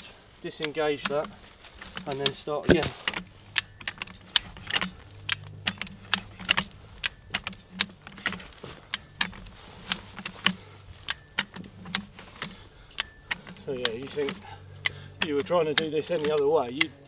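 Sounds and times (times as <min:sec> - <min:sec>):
jack ratchet clicking: 0:00.0 - 0:17.0.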